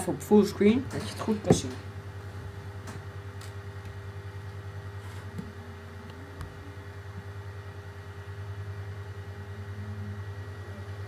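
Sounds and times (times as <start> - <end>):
pulsing mechanical hum: 0.0 - 11.0.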